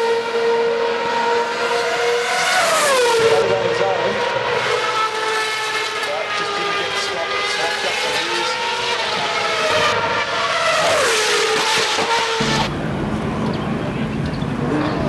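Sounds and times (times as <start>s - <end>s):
racing car engines at high revs: 0.0s - 15.0s
steady engine drone: 0.0s - 15.0s.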